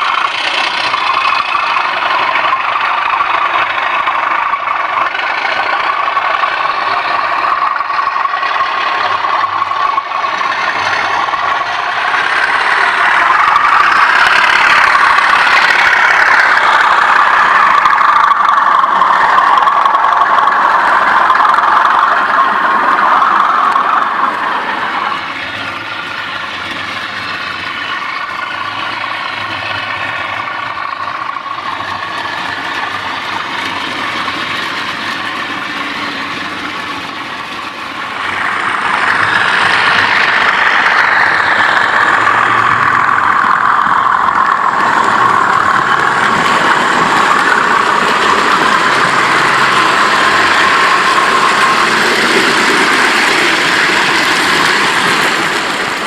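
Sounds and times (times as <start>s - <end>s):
model diesel locomotive engine: 0.0s - 56.0s.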